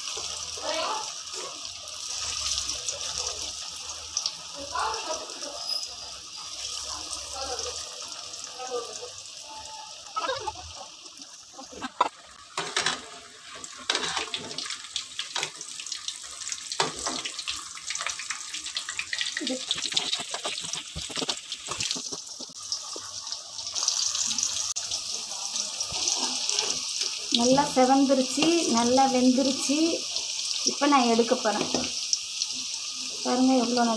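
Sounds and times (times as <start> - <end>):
food deep-frying in oil: 0.0 - 33.9.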